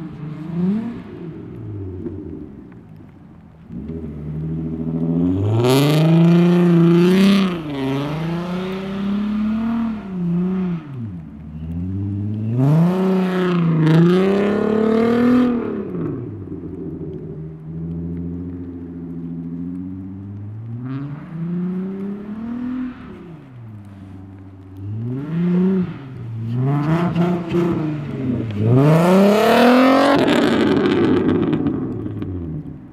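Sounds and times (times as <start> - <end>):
car engine revving: 0.0 - 32.9.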